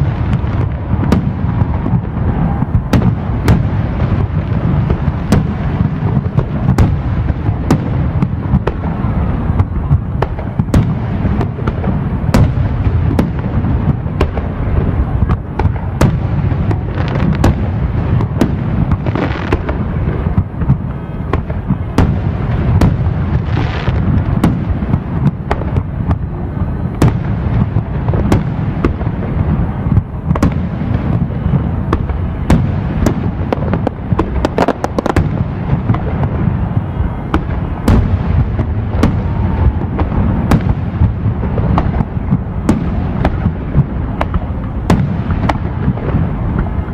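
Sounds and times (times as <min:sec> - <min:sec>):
fireworks bursting: 0:00.0 - 0:46.9
hissing crackles: 0:00.0 - 0:46.9.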